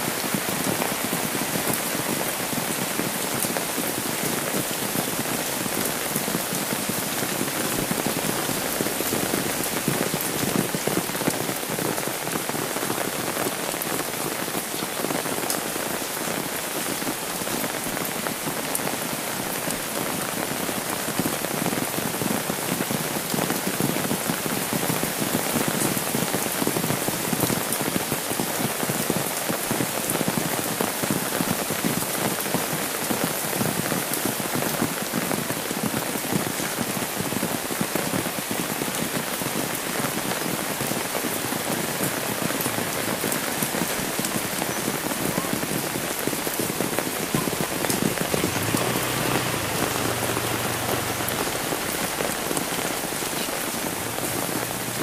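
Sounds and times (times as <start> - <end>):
rain on a wet road: 0.0 - 55.0
raindrops ticking on umbrella: 0.1 - 55.0.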